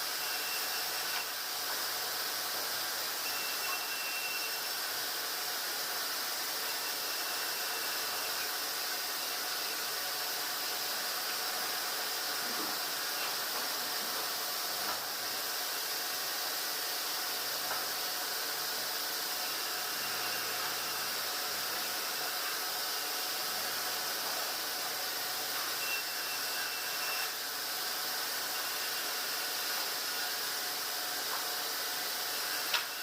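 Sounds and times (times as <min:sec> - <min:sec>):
hissing sawmill machinery: 0:00.0 - 0:33.0.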